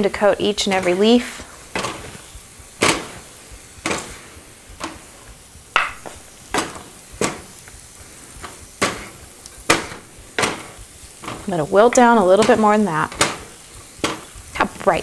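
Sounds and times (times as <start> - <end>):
faint pan sizzle: 0.0 - 15.0
wooden spoons scraping a skillet: 0.0 - 15.0.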